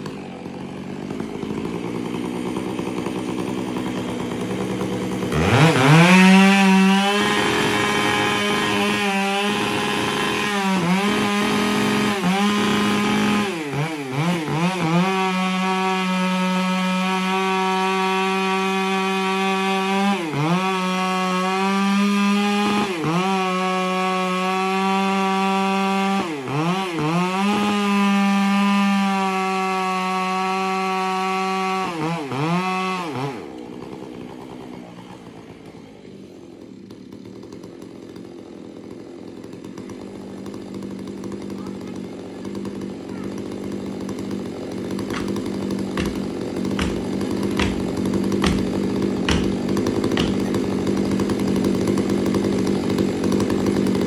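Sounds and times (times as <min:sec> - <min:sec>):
chainsaw cutting tree trunk: 0:00.0 - 0:54.0.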